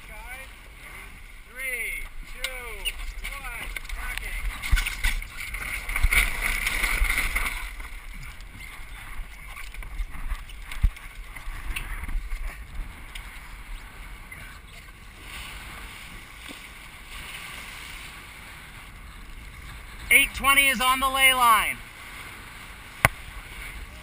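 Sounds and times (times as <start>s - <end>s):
water rushing along boat hull: 0.0s - 24.0s.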